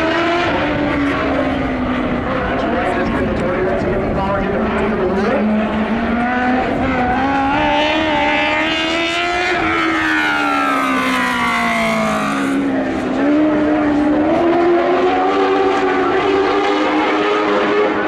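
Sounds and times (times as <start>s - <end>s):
racing car engine: 0.0s - 18.0s.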